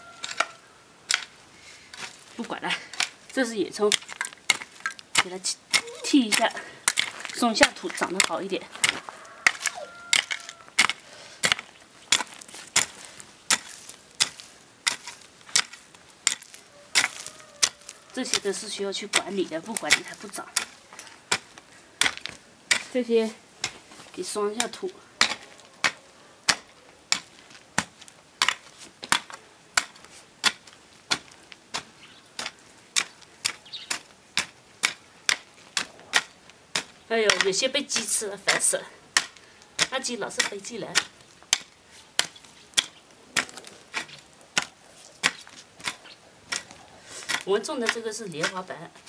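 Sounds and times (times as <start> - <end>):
hoe chopping into soil: 3.8 - 23.8, 24.5 - 49.0.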